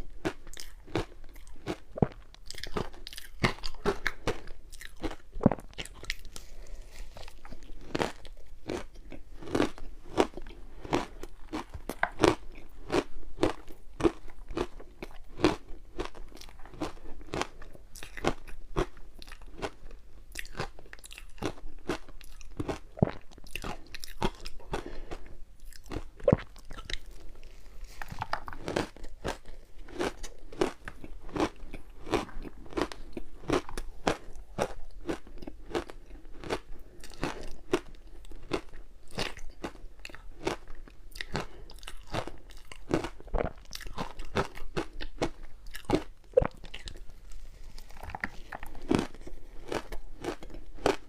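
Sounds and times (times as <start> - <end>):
chewing ice crunches: 0.0 - 51.0.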